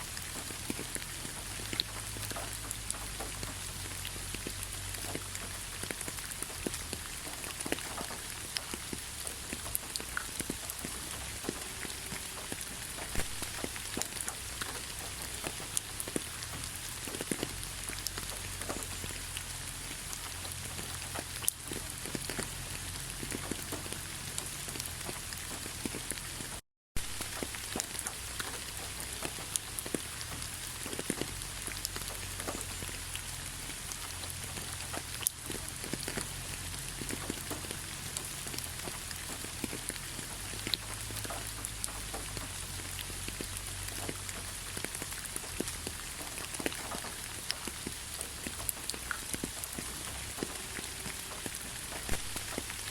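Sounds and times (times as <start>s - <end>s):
raindrops ticking: 0.0s - 52.9s
steady rain hiss: 0.0s - 52.9s.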